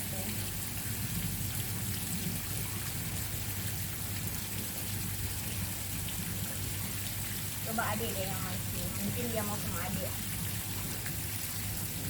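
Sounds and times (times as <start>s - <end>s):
low steady hum: 0.0s - 12.0s
steady hiss of water: 0.0s - 12.0s.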